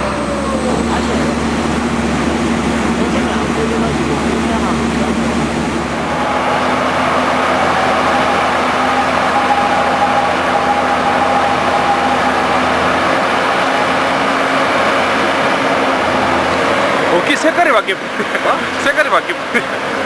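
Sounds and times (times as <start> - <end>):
faint high whine: 0.0 - 18.1
drilling rig running: 0.0 - 20.0.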